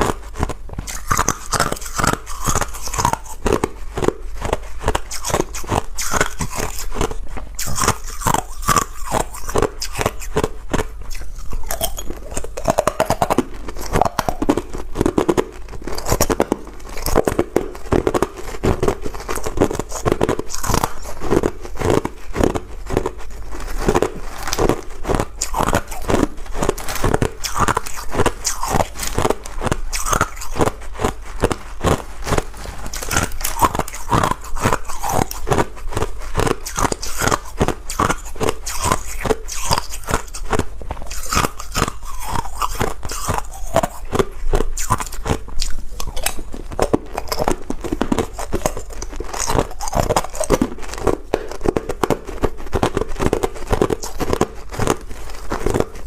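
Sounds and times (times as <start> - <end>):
person crunching ice: 0.0 - 56.0.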